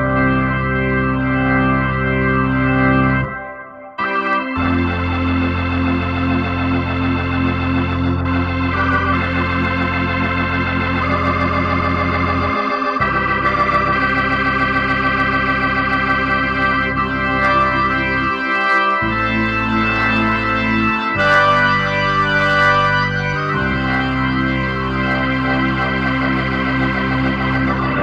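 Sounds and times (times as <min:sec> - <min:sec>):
organ bass pedal notes: 0:00.0 - 0:28.0
organ chords: 0:00.0 - 0:28.0.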